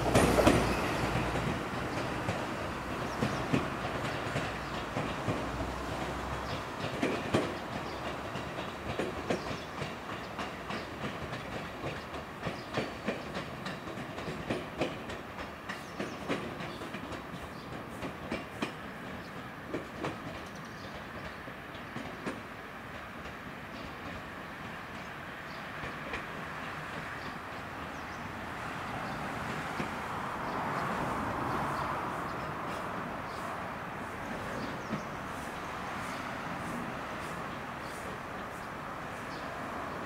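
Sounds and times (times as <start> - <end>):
train rumble: 0.0 - 40.0
train wheels clacking: 0.0 - 40.0.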